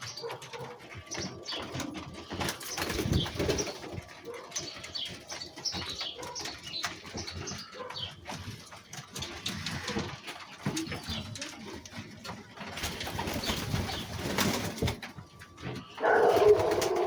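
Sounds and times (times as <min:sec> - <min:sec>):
birds calling softly: 0:00.0 - 0:17.0.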